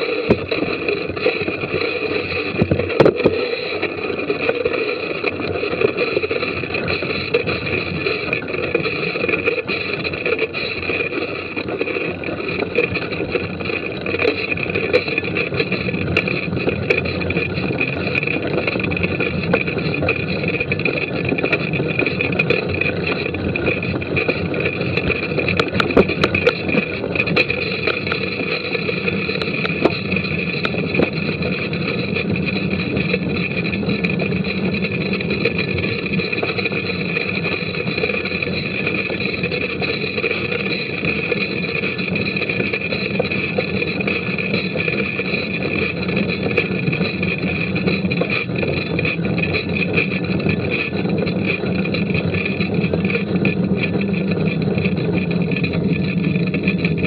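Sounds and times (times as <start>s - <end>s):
bike rattling and knocking: 0.0s - 57.0s.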